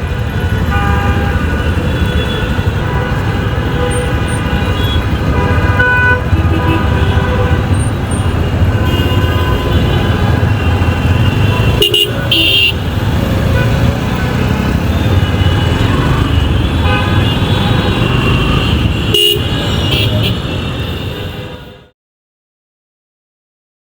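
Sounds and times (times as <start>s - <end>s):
traffic engine rumble: 0.0s - 21.8s
vehicle horn toots: 0.2s - 21.9s.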